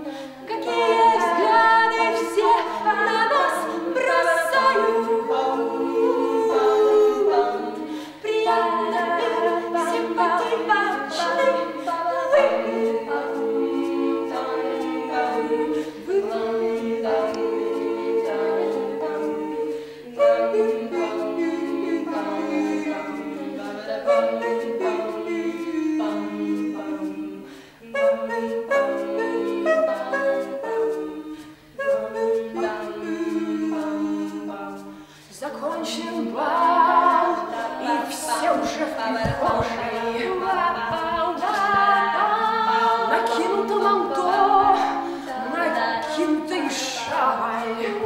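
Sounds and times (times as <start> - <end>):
vocal ensemble singing in harmony: 0.0 - 48.0.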